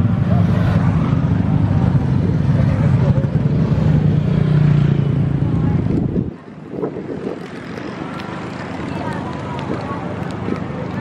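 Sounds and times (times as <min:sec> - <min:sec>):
motorcycle passing: 0:00.0 - 0:11.0
vehicle engines droning: 0:00.0 - 0:11.0.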